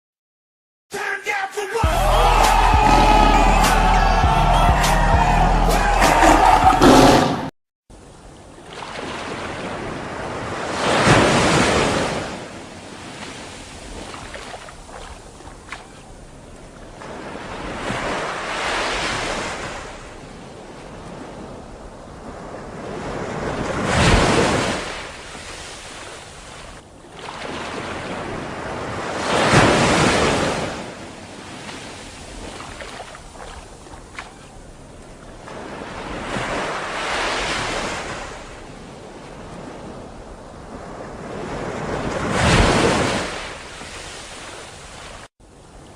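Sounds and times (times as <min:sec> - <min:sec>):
waves washing onto beach: 0:08.0 - 0:45.9.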